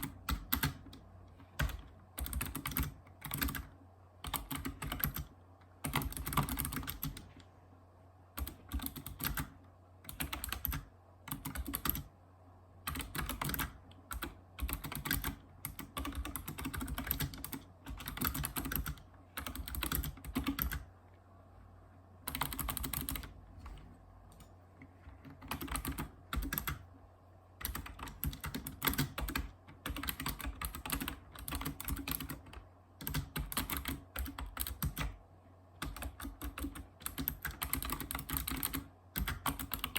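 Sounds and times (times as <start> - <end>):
keyboard keys clicking: 0.0 - 1.0, 1.6 - 7.4, 8.4 - 12.1, 12.9 - 20.9, 22.2 - 26.8, 27.6 - 35.2, 35.8 - 39.9.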